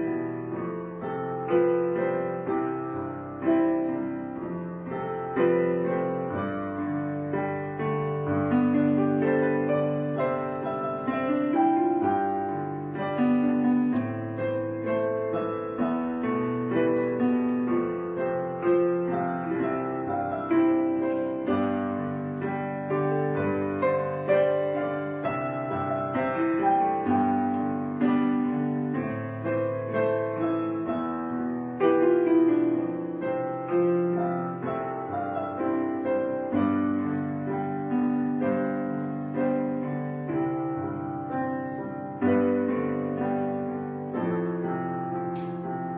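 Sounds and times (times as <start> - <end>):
piano music: 0.0 - 45.9.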